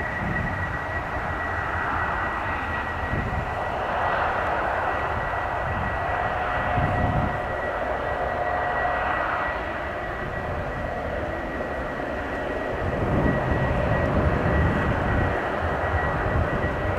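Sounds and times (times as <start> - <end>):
jet engines whining: 0.0 - 16.9.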